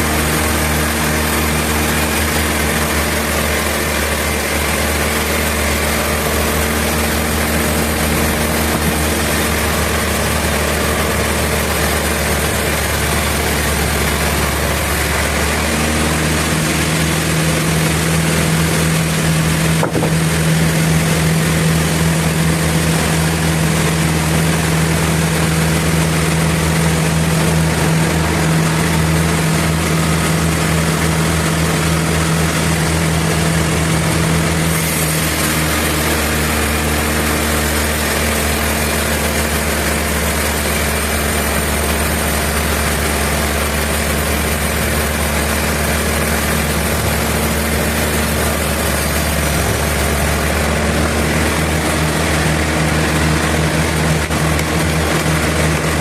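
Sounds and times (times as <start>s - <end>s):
motor humming: 0.0s - 56.0s
sawmill machinery running: 0.0s - 56.0s.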